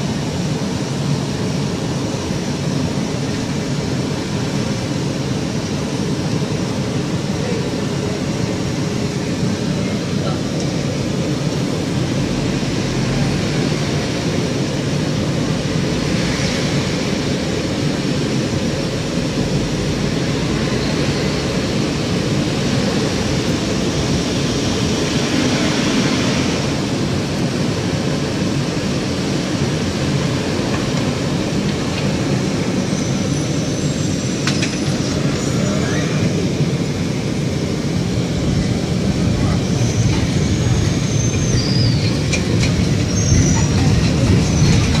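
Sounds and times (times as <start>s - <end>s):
traffic on wet street: 0.0s - 45.0s
tram rumble and hiss: 0.0s - 45.0s.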